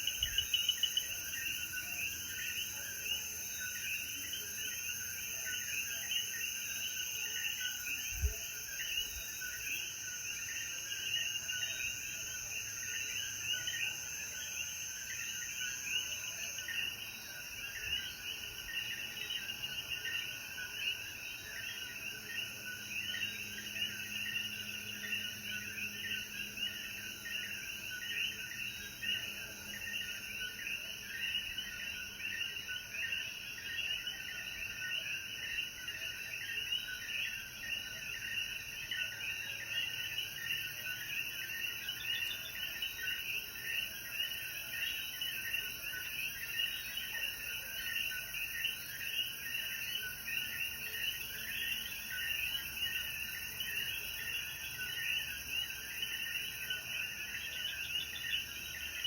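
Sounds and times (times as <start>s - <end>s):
frogs chirping in chorus: 0.0s - 59.0s.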